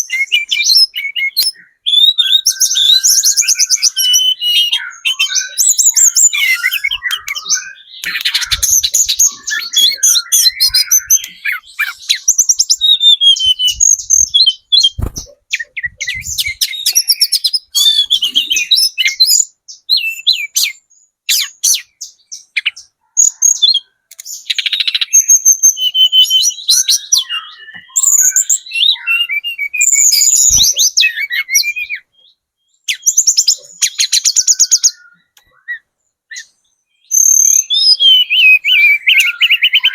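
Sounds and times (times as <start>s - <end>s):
bird singing high warbling trills: 0.0s - 39.9s.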